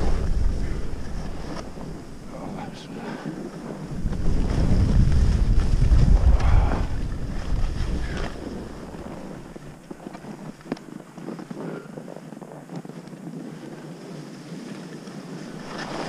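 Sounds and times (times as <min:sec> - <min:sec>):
skis scraping on snow: 0:00.0 - 0:16.0
wind rushing over microphone: 0:00.0 - 0:16.0.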